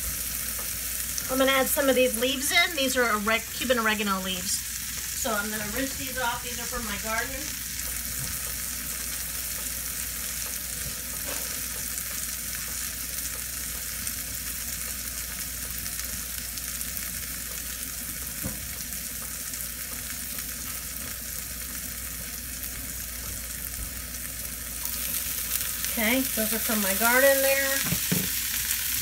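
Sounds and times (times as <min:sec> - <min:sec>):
peppers sizzling in oil: 0:00.0 - 0:29.0.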